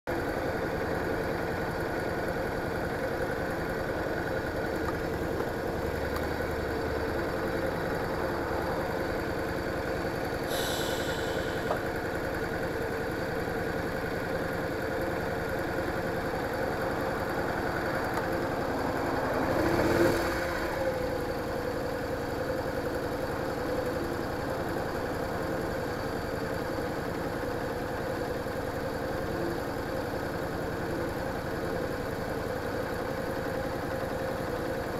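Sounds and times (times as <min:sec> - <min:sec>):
motorcycle engine idling: 0:00.1 - 0:19.6, 0:20.3 - 0:34.9.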